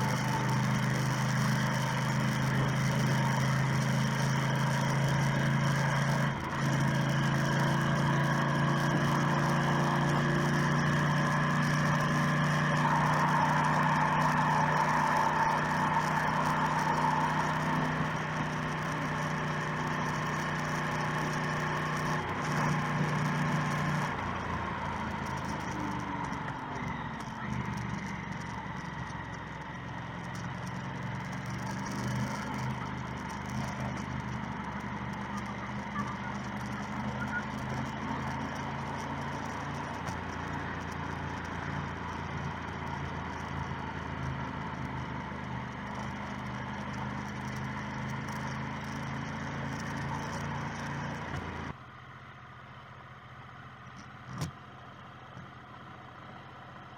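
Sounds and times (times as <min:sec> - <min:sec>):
wind and road noise: 0:00.0 - 0:51.8, 0:53.9 - 0:54.7
motorcycle engine running: 0:00.0 - 0:56.9.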